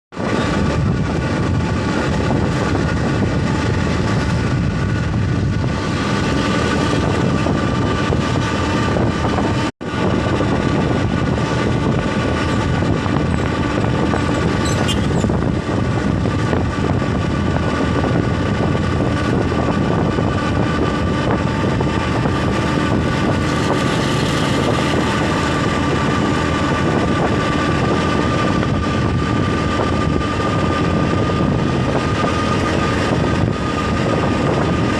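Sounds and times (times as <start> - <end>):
vehicle engine and road noise: 0.1 - 34.9.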